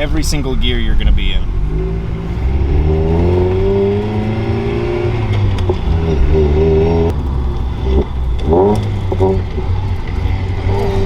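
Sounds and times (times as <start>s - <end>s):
car engine revving through gears: 0.0s - 11.0s.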